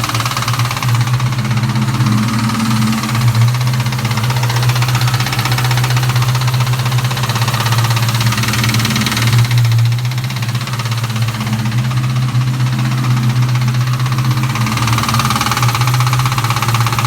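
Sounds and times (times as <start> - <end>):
car engine idling with ticking: 0.0 - 17.0.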